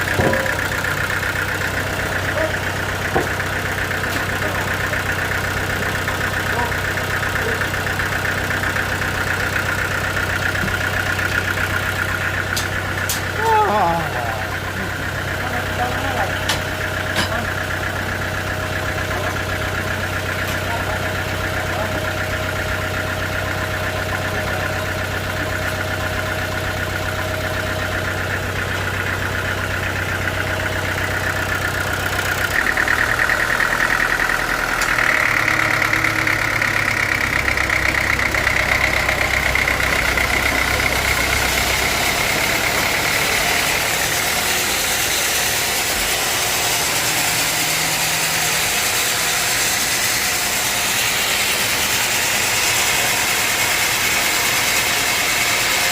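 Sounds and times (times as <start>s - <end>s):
high machine whine: 0.0s - 55.9s
sawmill engine hum: 0.0s - 55.9s.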